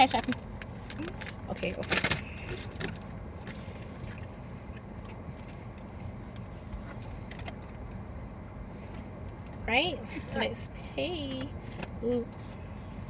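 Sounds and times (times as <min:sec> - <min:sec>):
air conditioning hum: 0:00.0 - 0:13.0
car engine idling: 0:00.0 - 0:13.0.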